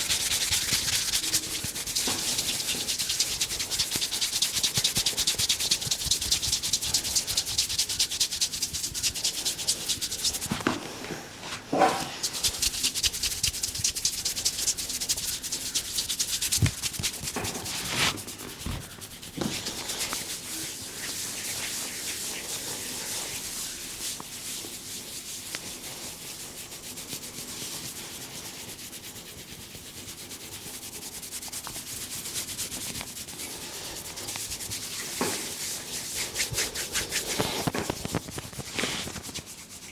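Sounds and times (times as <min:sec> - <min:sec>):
hands rubbing hair and scalp: 0:00.0 - 0:39.9.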